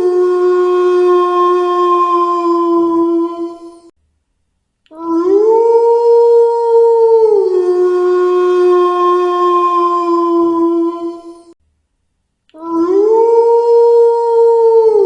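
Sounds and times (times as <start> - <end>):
wolf howling: 0.0 - 3.9, 5.0 - 11.6, 12.6 - 15.0.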